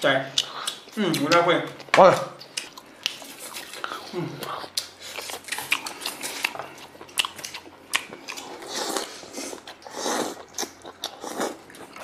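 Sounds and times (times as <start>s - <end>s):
man chewing meat: 0.3s - 12.0s.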